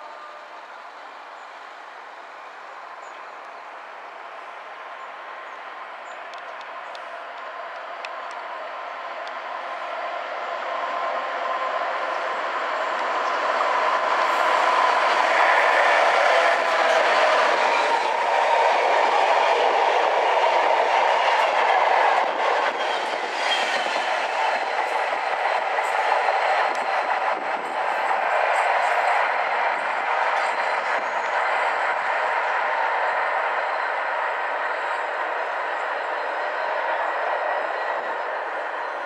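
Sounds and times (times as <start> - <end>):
train passing at speed: 0.0 - 39.0.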